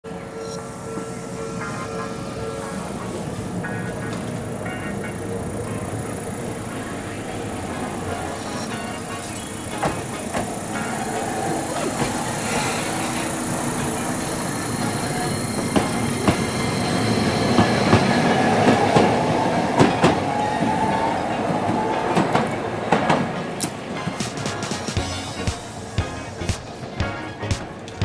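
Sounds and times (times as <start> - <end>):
train whine rising in pitch: 0.0 - 28.0
train wheels clacking over rails: 0.1 - 28.0.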